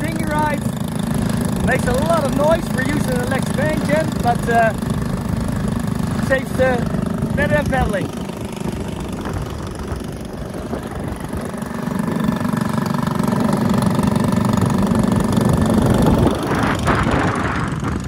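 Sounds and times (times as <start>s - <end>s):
small outboard motor running: 0.0s - 18.0s.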